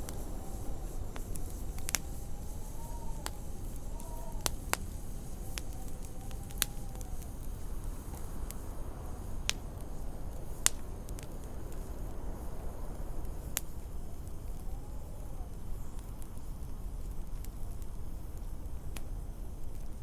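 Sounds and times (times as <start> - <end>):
howling wind whistle: 0.0 - 18.9
wind rumble: 0.0 - 18.9
wood fire crackling and popping: 0.0 - 20.0.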